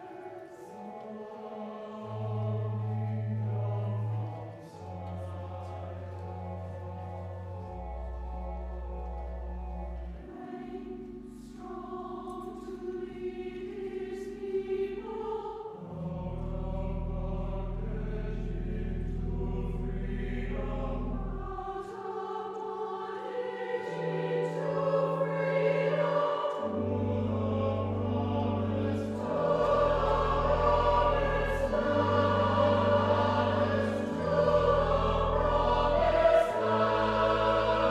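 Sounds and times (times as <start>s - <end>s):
church choir singing: 0.0s - 37.9s
held low accompaniment notes: 2.0s - 22.0s, 23.8s - 37.9s.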